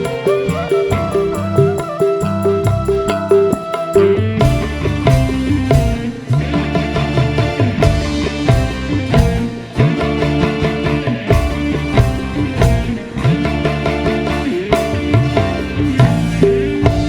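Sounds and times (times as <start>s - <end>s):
band music through loudspeakers: 0.0s - 17.0s.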